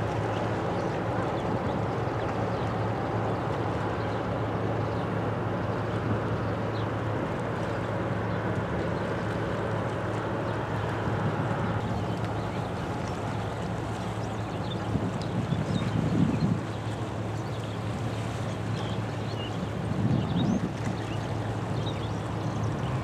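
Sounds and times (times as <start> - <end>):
ship engine drone: 0.0 - 15.5, 16.5 - 23.0.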